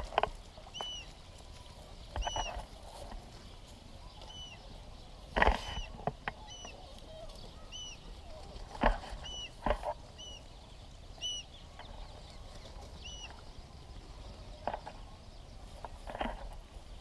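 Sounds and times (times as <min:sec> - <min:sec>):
bird chirping: 0:00.0 - 0:17.0
faint outdoor background noise: 0:00.0 - 0:17.0.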